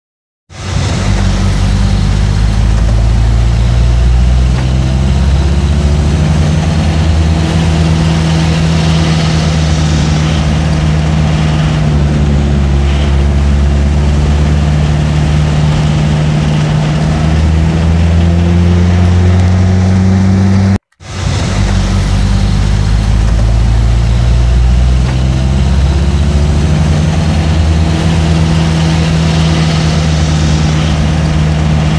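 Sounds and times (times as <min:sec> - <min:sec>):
diesel truck engine idling: 0:00.5 - 0:18.3, 0:21.0 - 0:31.9.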